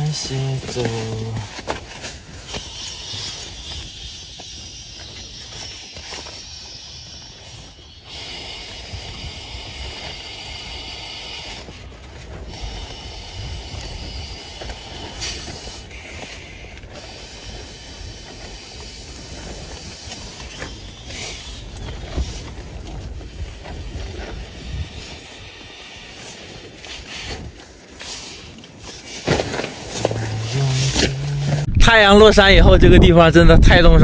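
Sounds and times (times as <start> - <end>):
strong wind buffeting microphone: 0.0 - 27.8, 30.0 - 34.0
wind hiss: 0.0 - 34.0.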